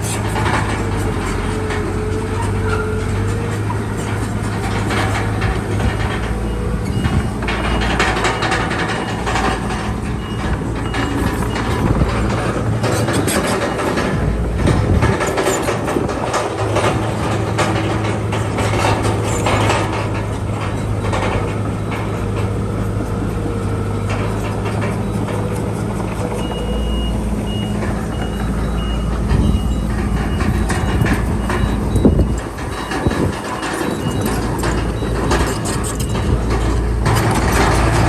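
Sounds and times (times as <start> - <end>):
bulldozer diesel engine running: 0.0 - 38.0
metallic clanking of tracks: 0.0 - 38.0
reversing alarm beeping: 4.6 - 38.0.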